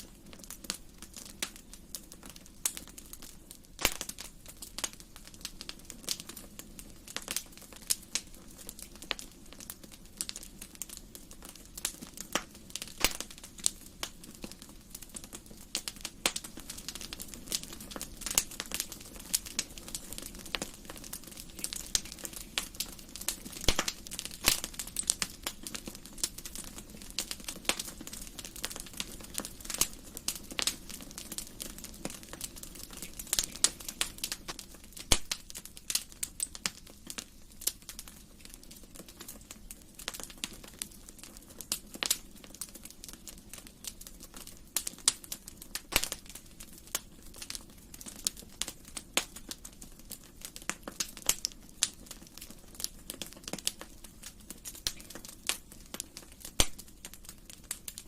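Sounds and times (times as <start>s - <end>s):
hiss of burning logs: 0.0s - 58.0s
wood fire crackling: 0.0s - 58.0s.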